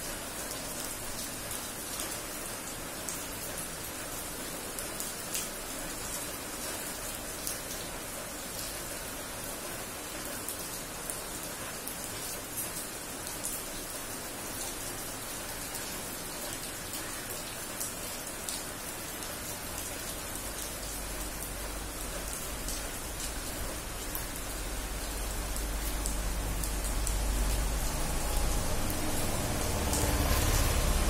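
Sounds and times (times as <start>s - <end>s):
close raindrops pattering: 0.0s - 31.0s
rain on wet paving: 0.0s - 31.0s.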